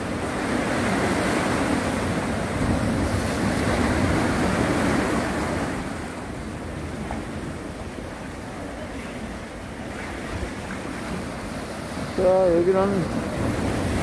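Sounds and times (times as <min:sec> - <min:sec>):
sea waves washing: 0:00.0 - 0:14.0.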